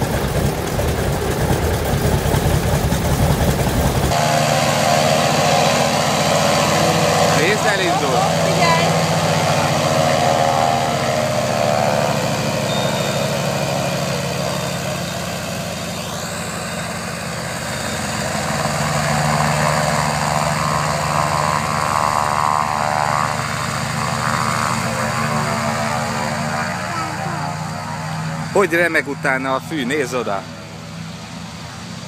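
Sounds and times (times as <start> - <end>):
radial aircraft engines running: 0.0 - 32.0.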